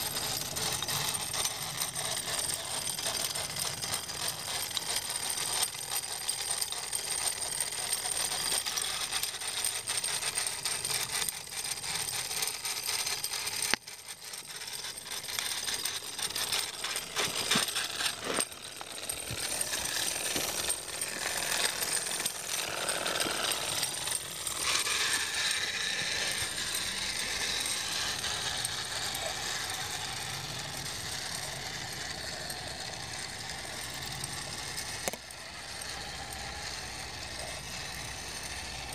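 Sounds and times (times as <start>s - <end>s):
toy steam engine chuffing: 0.0s - 38.9s.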